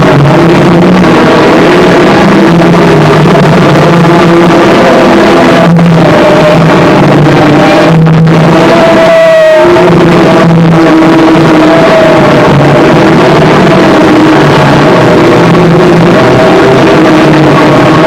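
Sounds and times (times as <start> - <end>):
harsh distorted noise music: 0.0 - 18.0.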